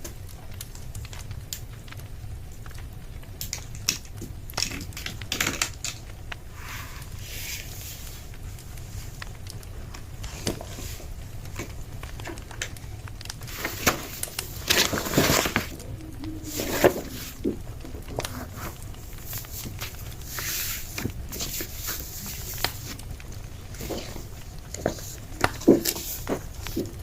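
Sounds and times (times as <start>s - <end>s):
low steady hum: 0.0s - 27.0s
rustling: 2.6s - 27.0s.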